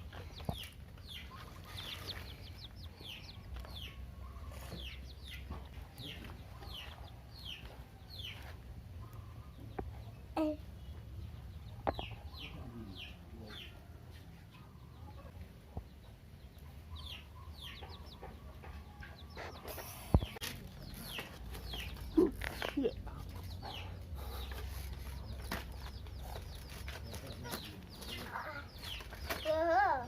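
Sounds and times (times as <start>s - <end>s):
chickens peeping: 0.0s - 30.0s.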